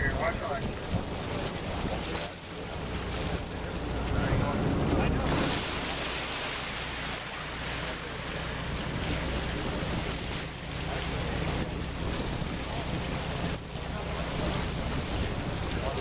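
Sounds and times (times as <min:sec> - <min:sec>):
wind noise on microphone: 0:00.0 - 0:06.0, 0:08.7 - 0:16.0
boat engine droning: 0:00.0 - 0:16.0
water splashing against hull: 0:00.0 - 0:16.0.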